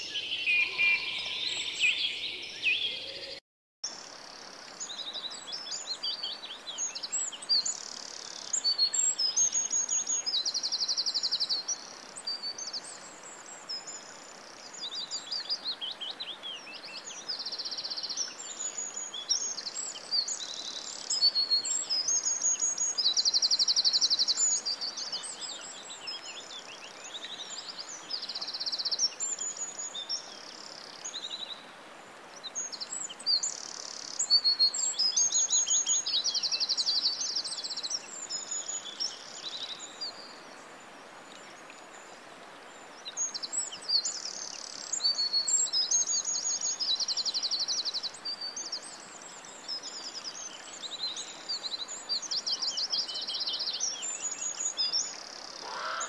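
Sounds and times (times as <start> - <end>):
faint steady hiss: 0.0 - 56.0
songbirds singing and calling: 0.0 - 56.0.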